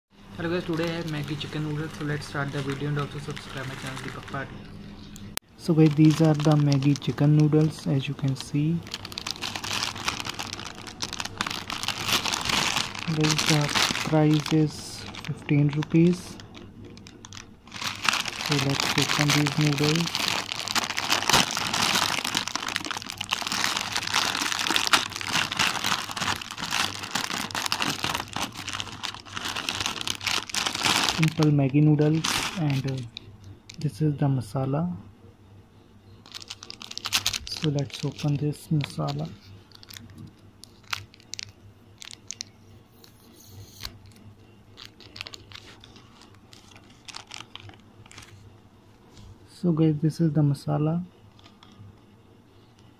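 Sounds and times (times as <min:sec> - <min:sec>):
plastic wrapper crinkling: 0:00.4 - 0:04.5, 0:05.6 - 0:33.9, 0:36.2 - 0:48.5, 0:51.3 - 0:51.8.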